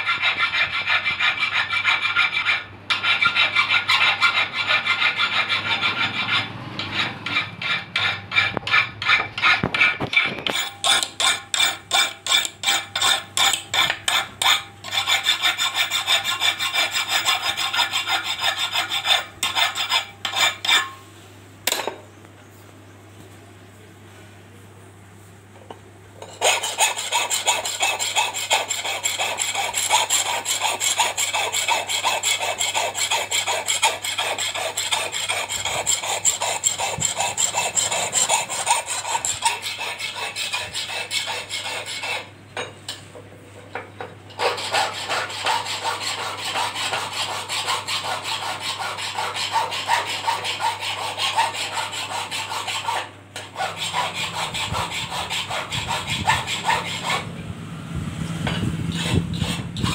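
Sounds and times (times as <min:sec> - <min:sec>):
hand file rasping on steel: 0:00.0 - 0:21.0, 0:26.2 - 0:42.3, 0:44.3 - 0:57.3, 0:58.9 - 0:59.9.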